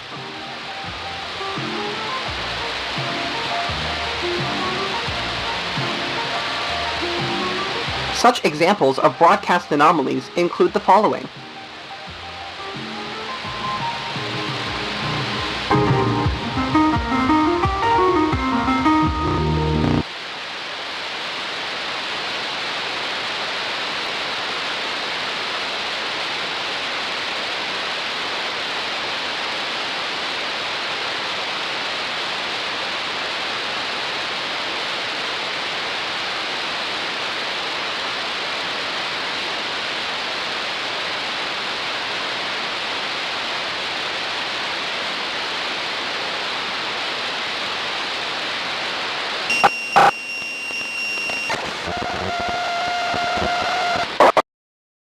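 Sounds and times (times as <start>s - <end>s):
television static hiss: 0.0s - 54.4s.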